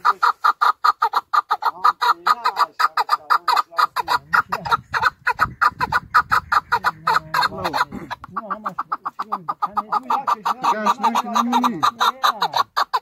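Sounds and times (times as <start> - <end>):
partridge calling chuk notes: 0.0 - 13.0.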